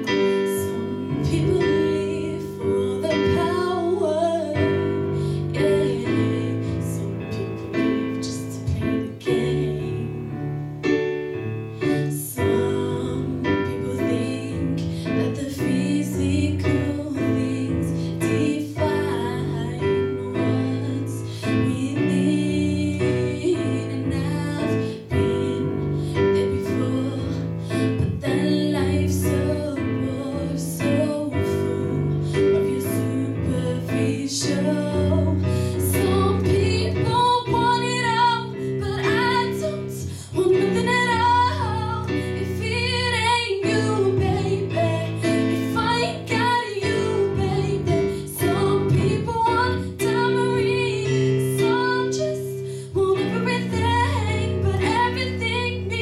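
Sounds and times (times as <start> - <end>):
girl singing: 0.0 - 10.6, 11.8 - 56.0
digital piano chords: 0.0 - 56.0.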